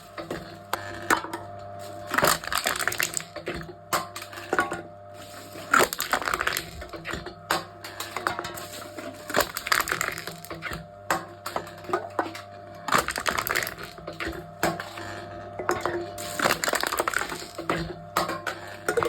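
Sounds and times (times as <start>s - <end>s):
machine crushing cans: 0.0s - 19.0s.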